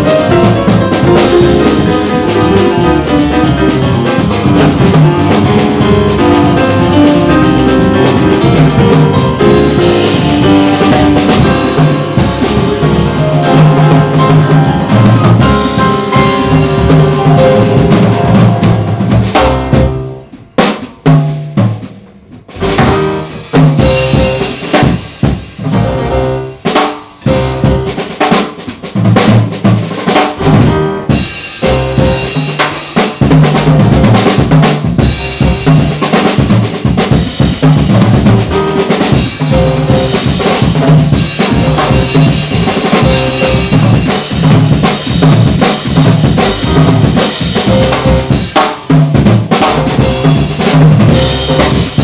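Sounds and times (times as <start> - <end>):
jazz drum solo: 0.0 - 52.0.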